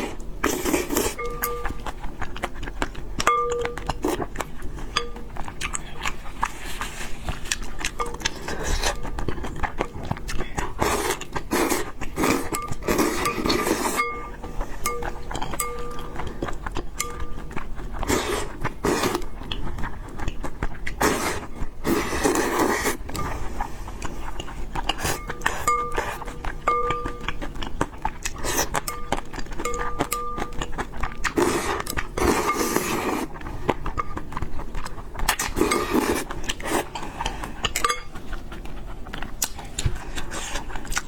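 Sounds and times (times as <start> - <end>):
noodles slurped and chewed: 0.0 - 41.0
utensils clinking against bowl: 0.5 - 6.5, 7.5 - 19.5, 21.5 - 34.4, 35.2 - 38.5.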